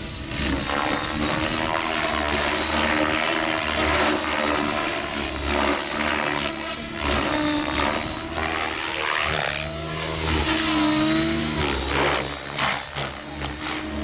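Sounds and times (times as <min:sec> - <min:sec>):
electric motor and gears whining: 0:00.0 - 0:14.0
rc helicopter rotor whoosh: 0:00.0 - 0:14.0.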